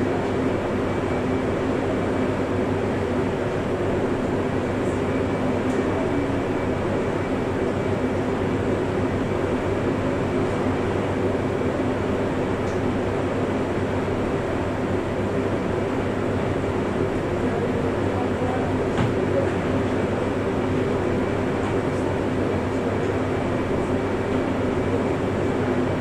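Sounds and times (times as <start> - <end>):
train air conditioning hum: 0.0 - 26.0.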